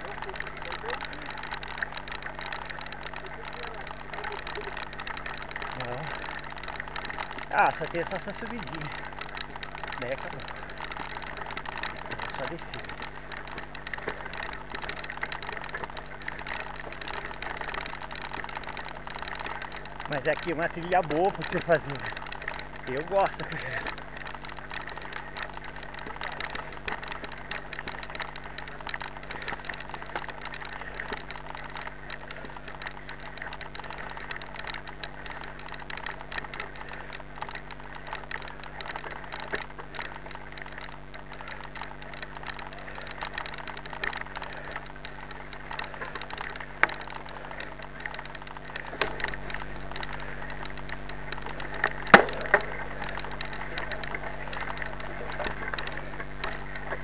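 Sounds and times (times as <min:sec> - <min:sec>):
mountain bike tyre and drivetrain noise: 0:00.0 - 0:57.0
rattle of small clicks: 0:00.0 - 0:57.0.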